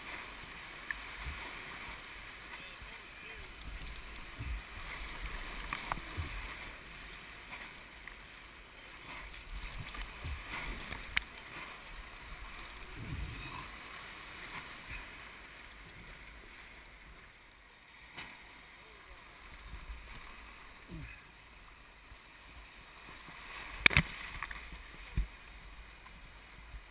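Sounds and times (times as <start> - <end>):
water splashing against boat: 0.0 - 26.9.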